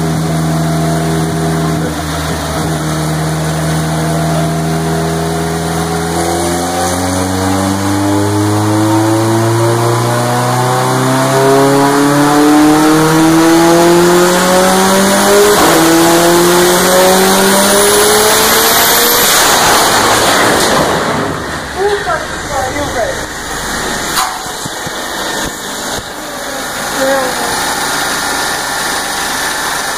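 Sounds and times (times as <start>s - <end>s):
car engine revving under load: 0.0s - 29.9s.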